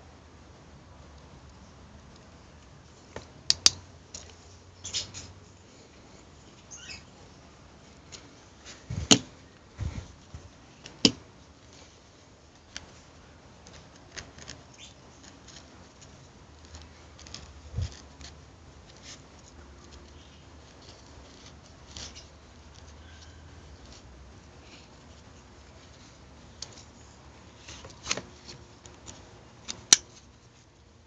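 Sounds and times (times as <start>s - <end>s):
rustling handling noise: 1.2s - 31.0s.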